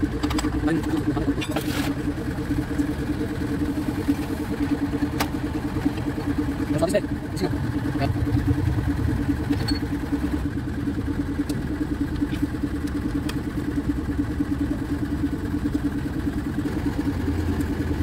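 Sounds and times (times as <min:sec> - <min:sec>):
engine-like drone: 0:00.0 - 0:18.0.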